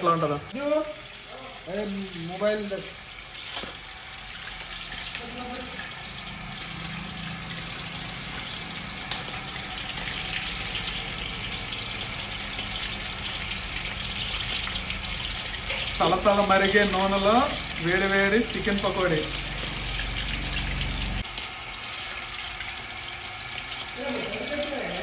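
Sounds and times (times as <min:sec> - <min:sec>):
food deep-frying in hot oil: 0:00.0 - 0:25.0.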